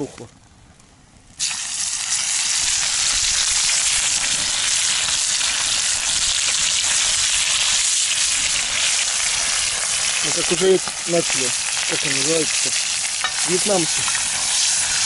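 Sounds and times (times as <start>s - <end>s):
meat sizzling in hot fat: 1.4s - 15.0s.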